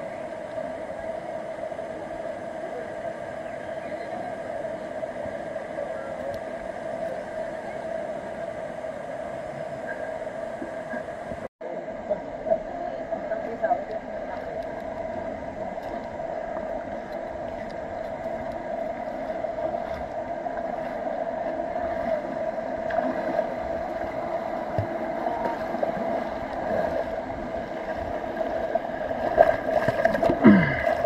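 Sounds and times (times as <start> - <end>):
river water running over rocks: 0.0 - 31.0.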